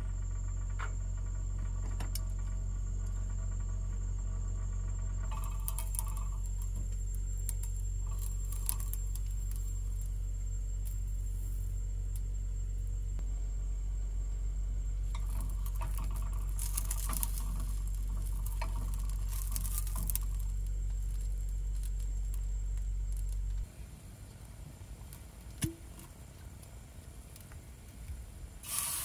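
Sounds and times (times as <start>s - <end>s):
steady low hum: 0.0s - 25.1s
faint sizzle: 0.0s - 25.4s, 26.3s - 29.0s.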